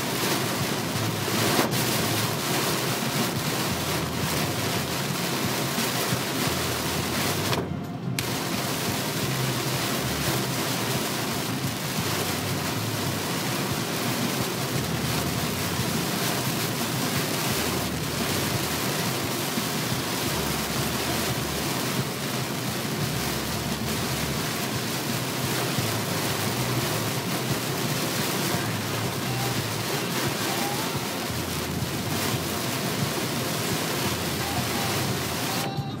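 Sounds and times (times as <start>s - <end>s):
rain beating on car: 0.0s - 36.0s.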